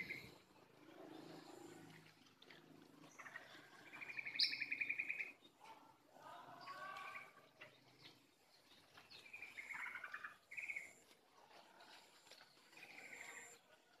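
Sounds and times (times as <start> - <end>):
small birds chirping and trilling: 0.0 - 14.0.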